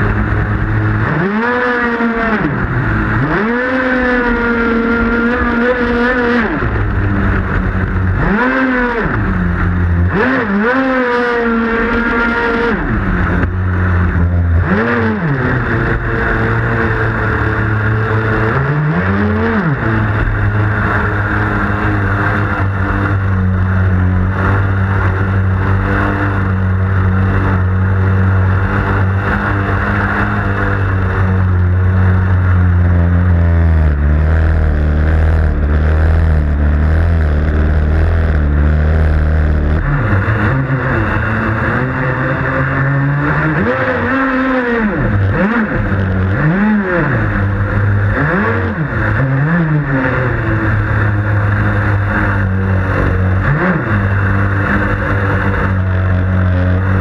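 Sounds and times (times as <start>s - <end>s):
model boat motor: 0.0s - 57.0s.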